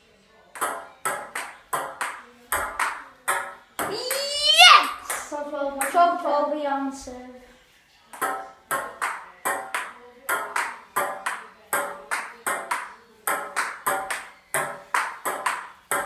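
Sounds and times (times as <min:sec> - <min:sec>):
ping-pong ball hitting paddles and table: 0:00.5 - 0:06.1, 0:08.1 - 0:16.0.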